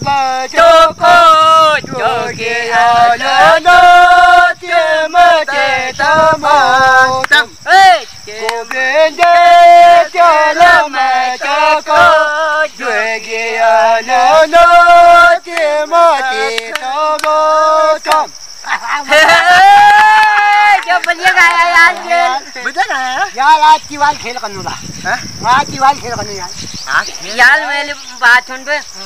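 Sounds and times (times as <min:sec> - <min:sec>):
men singing together: 0:00.0 - 0:23.3.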